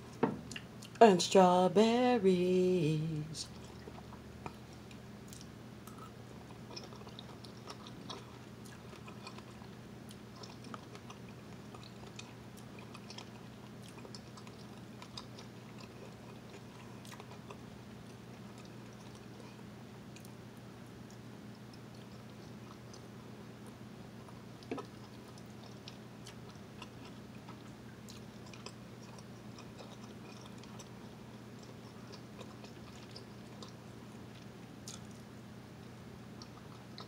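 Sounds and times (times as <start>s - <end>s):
person chewing: 0.0s - 1.0s, 3.5s - 20.4s, 21.0s - 35.3s, 36.3s - 37.0s
faint low hum: 0.0s - 37.0s.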